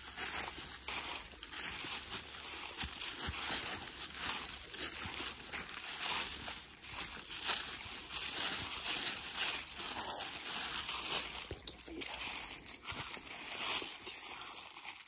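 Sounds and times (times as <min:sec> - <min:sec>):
footsteps through dry leaves: 0:00.0 - 0:15.0.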